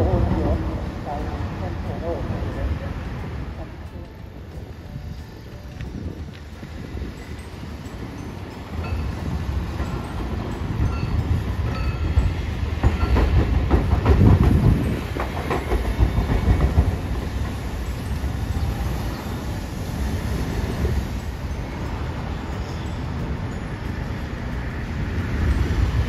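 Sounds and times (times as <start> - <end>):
tram wheels clacking over rails: 0.0 - 26.0.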